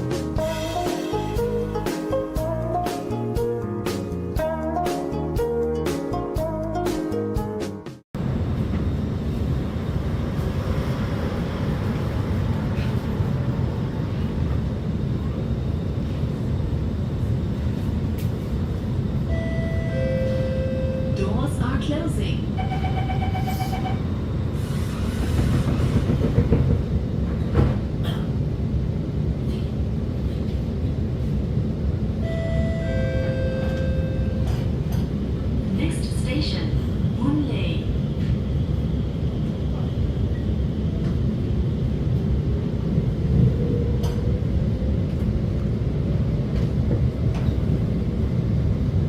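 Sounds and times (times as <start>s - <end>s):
metro train interior rumble: 0.0s - 49.0s.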